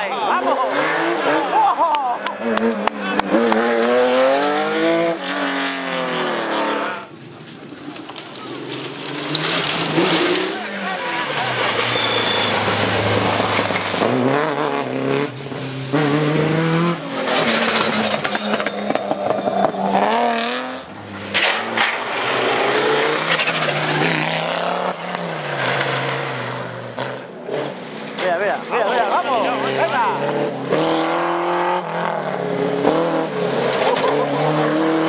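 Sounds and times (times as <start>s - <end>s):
rally cars passing at full throttle: 0.0s - 35.0s.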